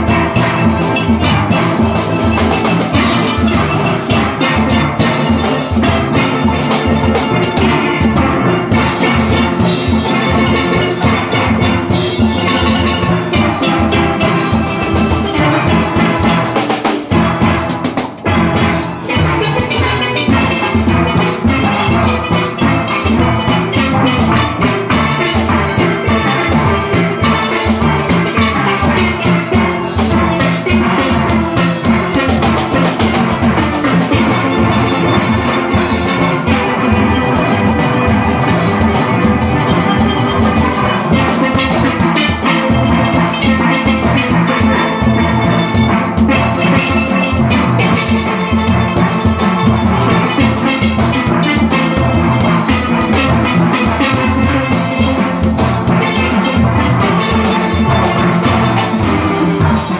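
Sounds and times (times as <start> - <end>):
drums keeping a beat: 0.0 - 59.9
steelpans playing melody: 0.0 - 59.9.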